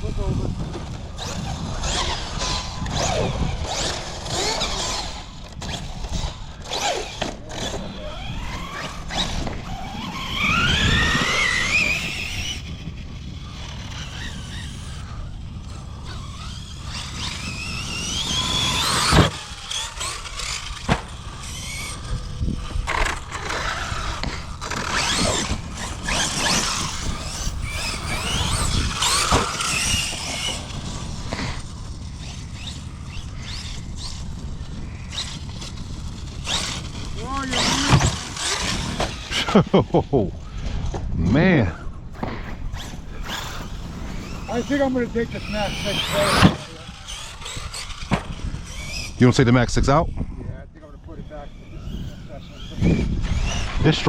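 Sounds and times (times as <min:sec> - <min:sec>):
rc truck motors whining: 0:00.0 - 0:54.0.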